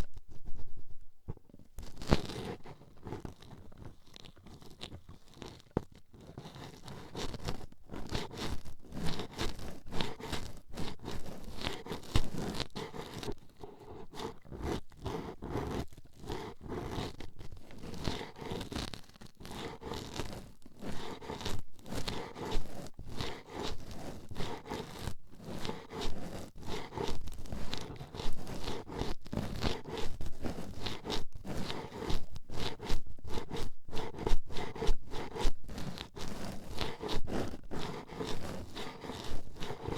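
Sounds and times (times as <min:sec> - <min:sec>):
toothpick scraping microphone: 0:00.0 - 0:39.9.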